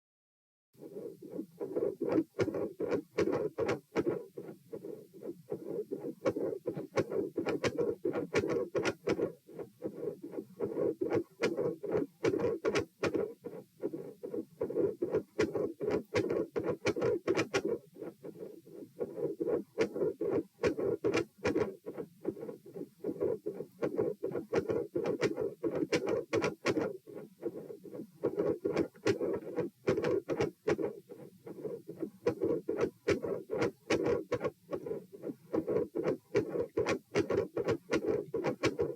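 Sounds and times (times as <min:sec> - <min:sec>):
heartbeat through stethoscope: 0:00.8 - 0:38.9.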